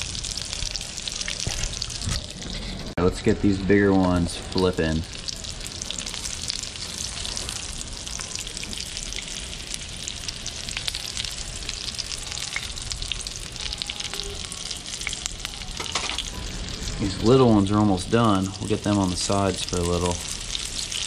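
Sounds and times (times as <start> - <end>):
fish frying in hot oil: 0.0 - 2.5, 3.2 - 21.0.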